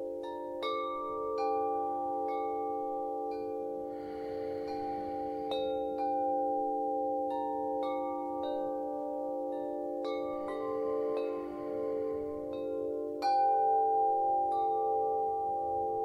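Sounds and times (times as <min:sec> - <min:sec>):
chimes ringing softly: 0:00.0 - 0:16.0.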